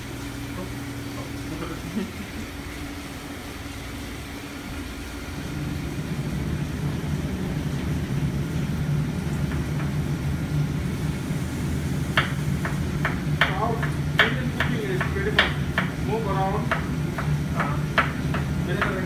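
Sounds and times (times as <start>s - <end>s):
kitchen equipment humming: 0.0s - 19.0s.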